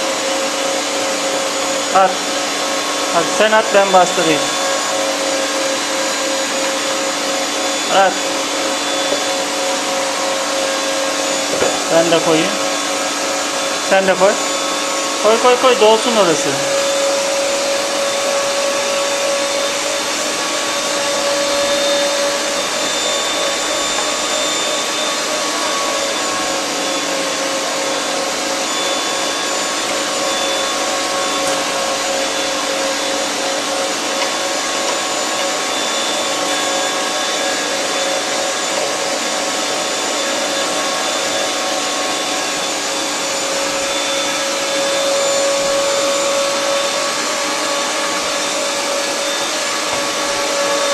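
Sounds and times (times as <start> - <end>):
electric meat grinder humming: 0.0 - 50.9.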